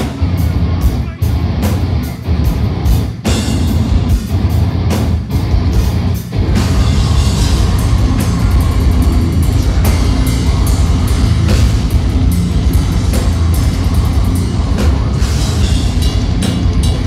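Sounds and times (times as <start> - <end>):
metal band playing live: 0.0 - 17.0.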